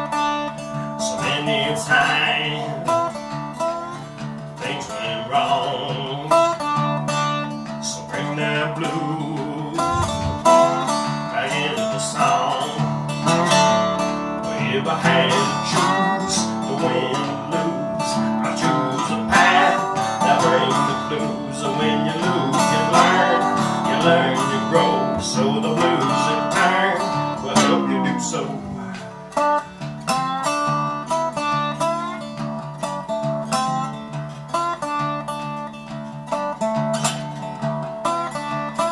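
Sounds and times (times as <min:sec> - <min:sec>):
slide resonator guitar blues: 0:00.0 - 0:38.9.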